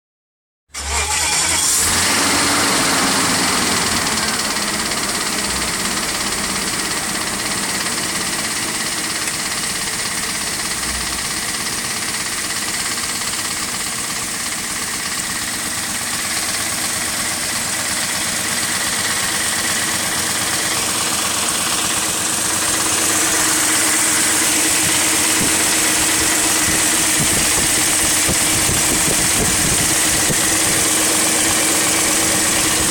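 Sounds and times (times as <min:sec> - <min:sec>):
engine idling with rattle: 0:00.7 - 0:32.9.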